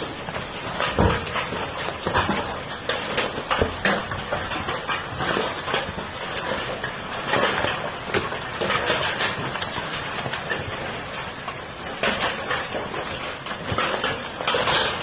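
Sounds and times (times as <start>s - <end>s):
hailstones clattering on hard surfaces: 0.0s - 15.0s.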